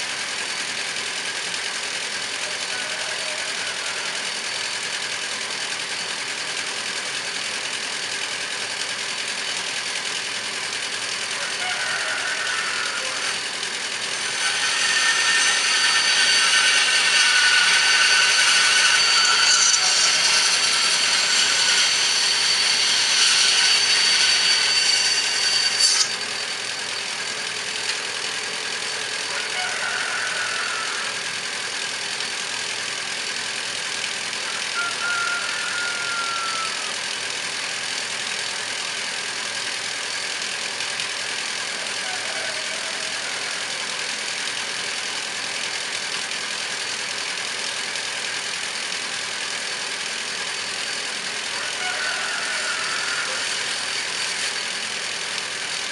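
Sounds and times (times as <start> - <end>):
chainsaw running: 0.0 - 55.9.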